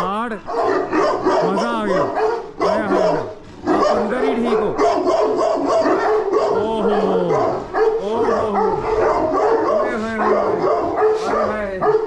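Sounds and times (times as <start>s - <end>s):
large dogs barking: 0.1s - 12.0s.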